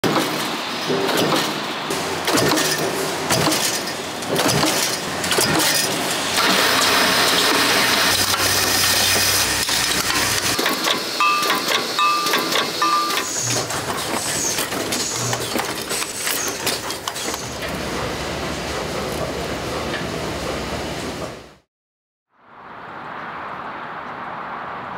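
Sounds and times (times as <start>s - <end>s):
factory machinery running: 0.0s - 21.6s.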